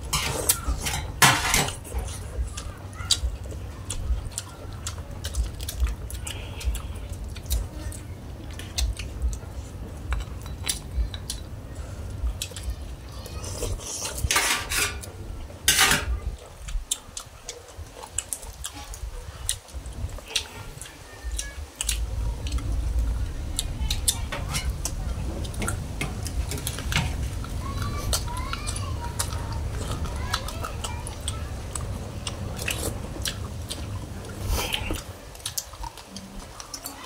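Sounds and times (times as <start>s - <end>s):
eating noises: 0.0s - 37.0s.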